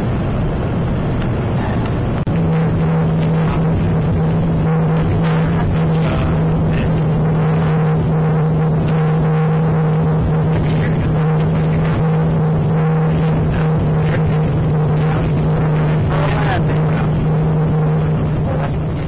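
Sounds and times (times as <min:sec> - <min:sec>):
constant low hum: 0:00.0 - 0:19.0
jet engine whine: 0:00.0 - 0:19.0.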